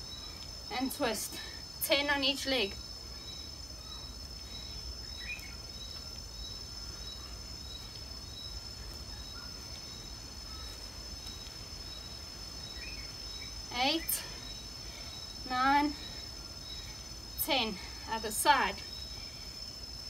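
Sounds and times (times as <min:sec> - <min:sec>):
insects chirring: 0:00.0 - 0:20.0
short insect chirp: 0:00.0 - 0:20.0.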